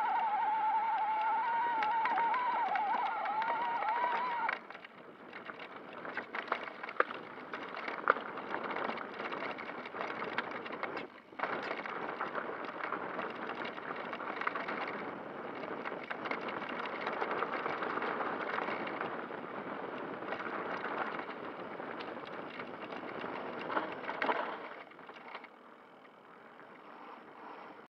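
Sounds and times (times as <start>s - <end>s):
bike tyres crunching over gravel: 0.0s - 27.8s
bike frame clicks and knocks: 0.6s - 19.2s, 19.9s - 26.2s.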